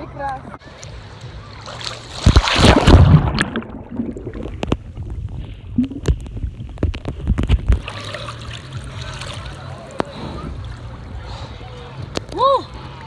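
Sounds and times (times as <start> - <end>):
sea water splashing: 0.6 - 12.4.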